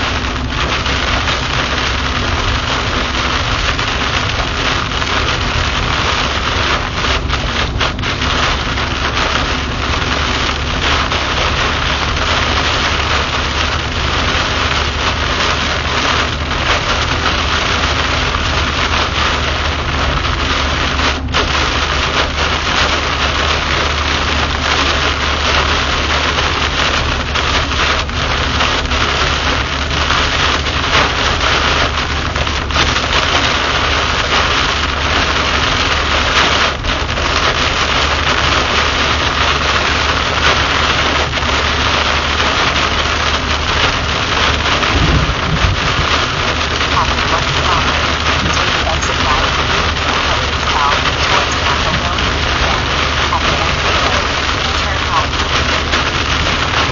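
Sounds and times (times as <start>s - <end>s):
heavy rain on car windshield: 0.0s - 56.9s
tyres rumbling on wet road: 0.0s - 56.9s.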